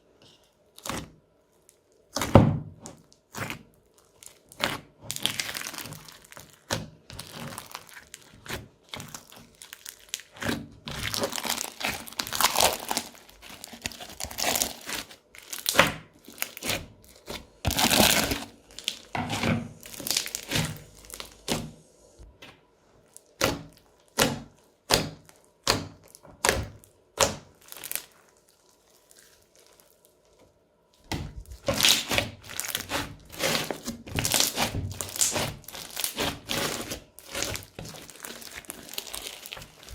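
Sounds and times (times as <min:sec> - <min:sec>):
slime crackling and popping: 0:00.7 - 0:21.9, 0:23.0 - 0:30.4, 0:31.0 - 0:39.9.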